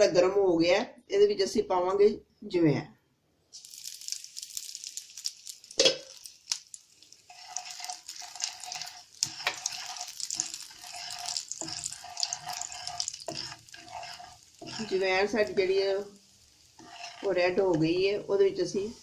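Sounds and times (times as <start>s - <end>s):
seeds sizzling in hot fat: 3.5s - 19.0s.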